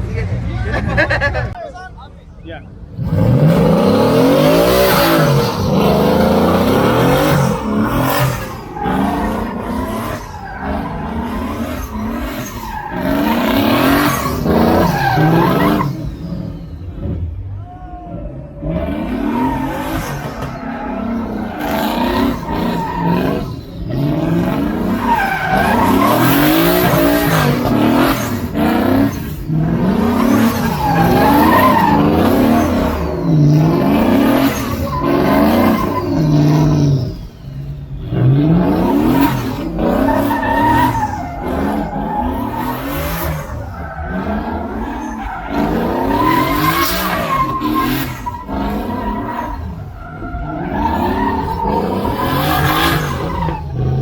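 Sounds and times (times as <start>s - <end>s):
truck engine revving: 2.8s - 54.0s.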